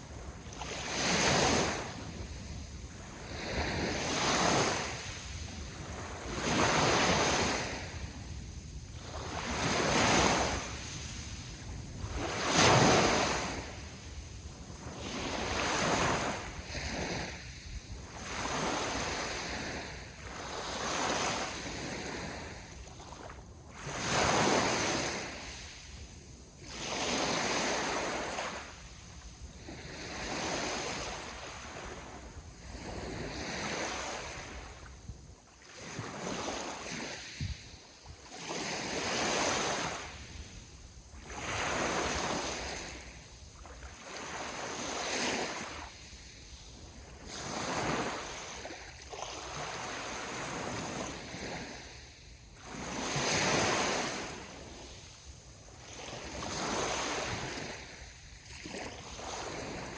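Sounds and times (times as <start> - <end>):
small waves breaking on shore: 0.0 - 59.9
wind: 0.0 - 59.9.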